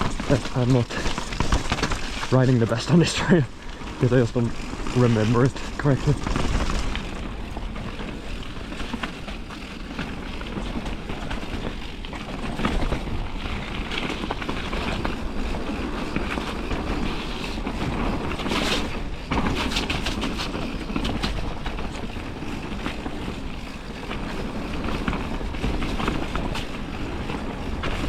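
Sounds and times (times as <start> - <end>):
bike rattling over bumps: 0.0 - 28.0
tyres on wet ground: 0.0 - 28.0.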